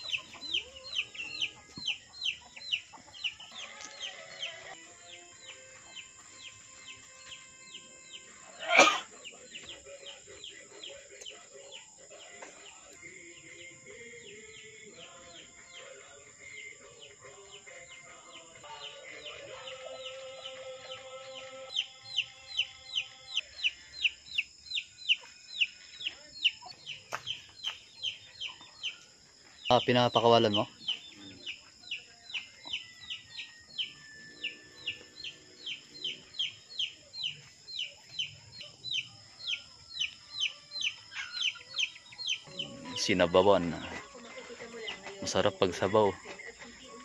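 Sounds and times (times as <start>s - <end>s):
chicks peeping: 0.0s - 47.0s
high insect drone: 0.0s - 47.0s.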